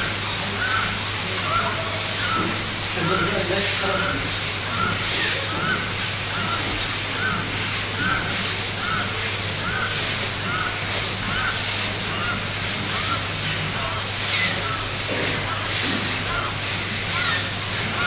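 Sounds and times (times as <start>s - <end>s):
forceful breaths hissing: 0.0s - 18.0s
steady hum: 0.0s - 18.0s.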